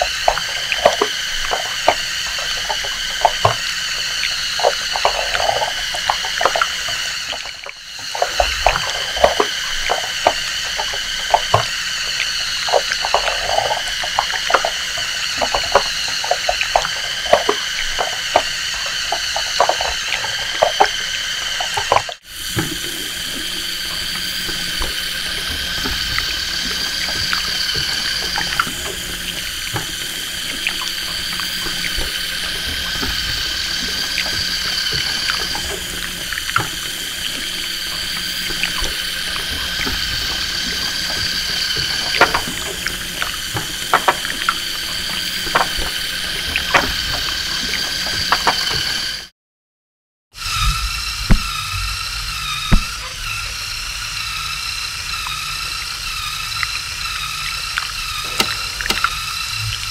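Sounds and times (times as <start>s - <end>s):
electric motor and gears whining: 0.0s - 49.3s, 50.4s - 59.9s.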